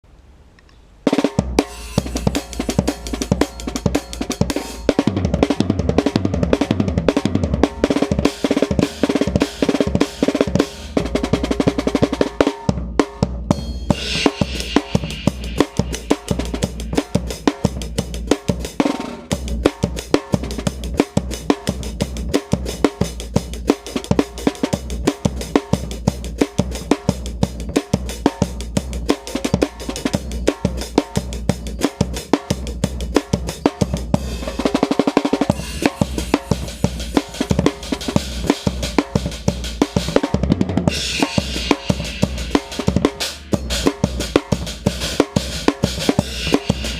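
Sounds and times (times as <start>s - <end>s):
drum kit playing: 1.1s - 46.9s.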